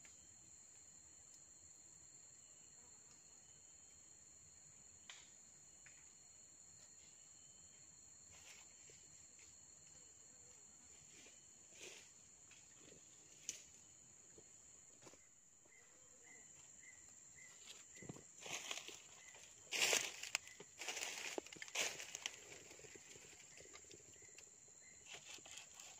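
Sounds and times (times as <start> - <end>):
insects droning: 0.0 - 25.9.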